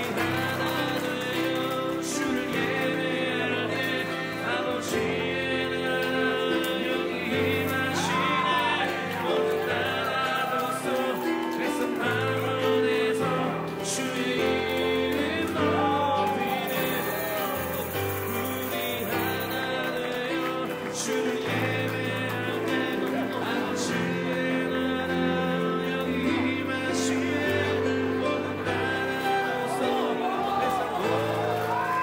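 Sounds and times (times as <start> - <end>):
worship song singing: 0.0 - 32.0.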